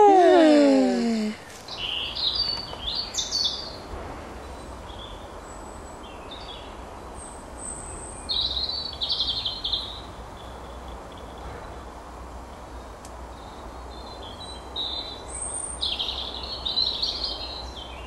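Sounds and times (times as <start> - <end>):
songbirds singing: 0.1 - 18.0.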